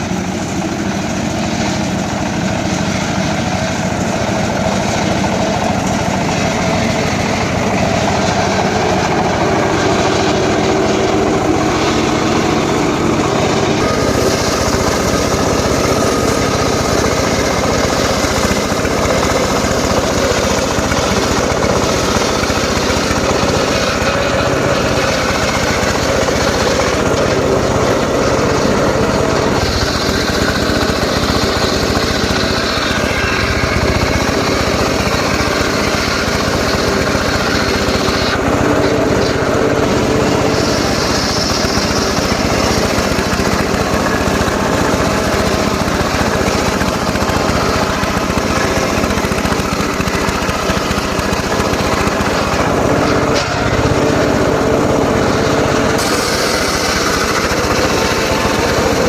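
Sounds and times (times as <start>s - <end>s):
power saw engine running: 0.0s - 59.0s.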